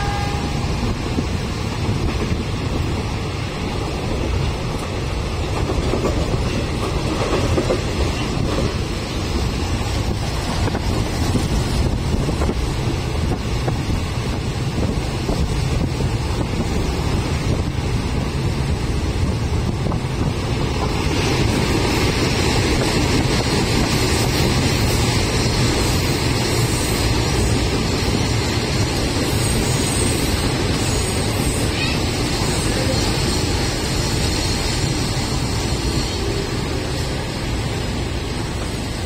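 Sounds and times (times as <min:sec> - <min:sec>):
train wheels rumbling: 0:00.0 - 0:39.0
wind noise rushing: 0:00.0 - 0:39.0.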